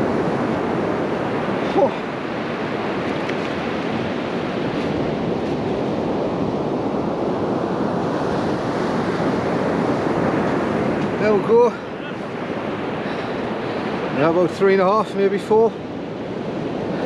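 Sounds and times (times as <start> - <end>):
sea surf washing on beach: 0.0 - 17.0
wind on microphone: 0.0 - 17.0.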